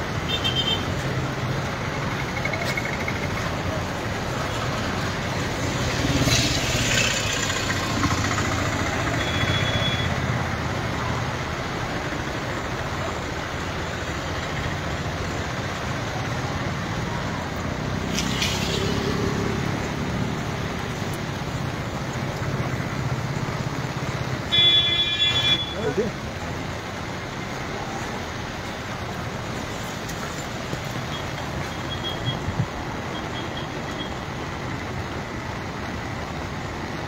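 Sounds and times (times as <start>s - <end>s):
river rushing in flood: 0.0s - 37.0s.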